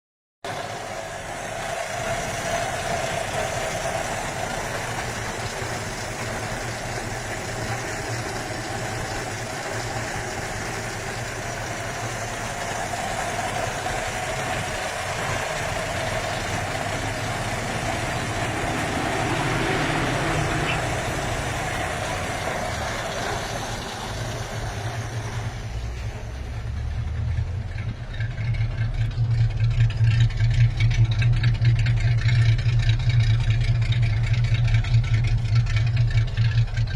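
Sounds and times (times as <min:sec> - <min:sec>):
car engine idling: 0:00.4 - 0:36.9.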